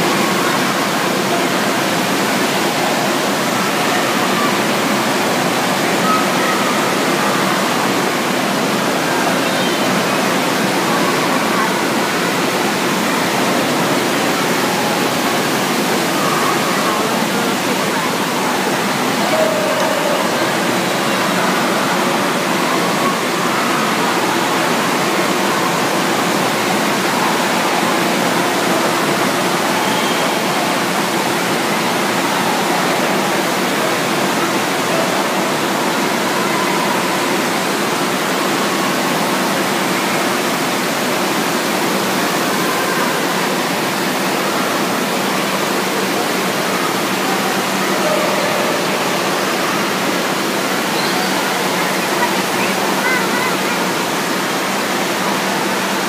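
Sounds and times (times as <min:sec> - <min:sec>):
faint voices: 0:00.0 - 0:56.0
rushing water: 0:00.0 - 0:56.0.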